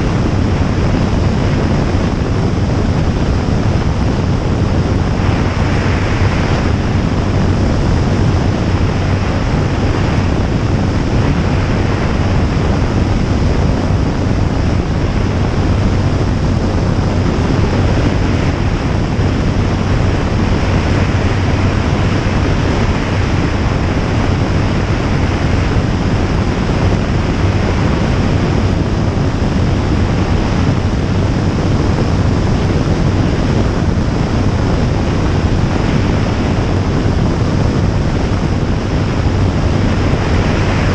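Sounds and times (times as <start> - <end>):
aircraft engine and propeller droning: 0.0 - 40.9
wind rush on microphone: 0.0 - 40.9.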